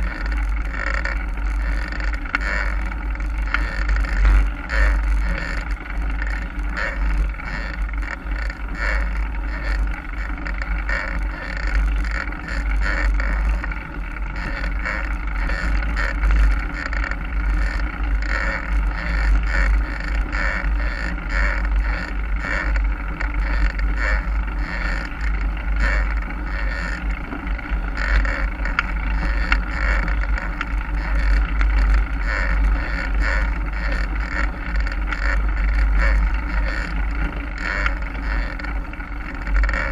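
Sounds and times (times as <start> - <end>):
bike rattling over ground: 0.0 - 39.9.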